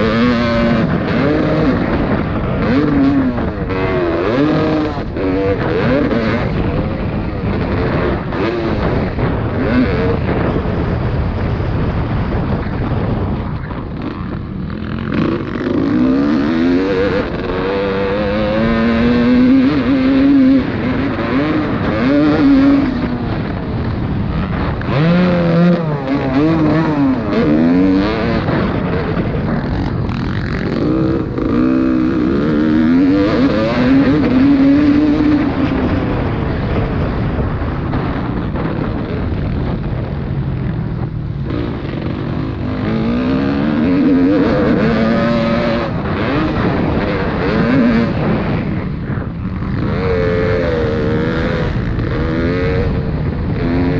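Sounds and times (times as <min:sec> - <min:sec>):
motocross motorcycles revving: 0:00.0 - 0:53.9.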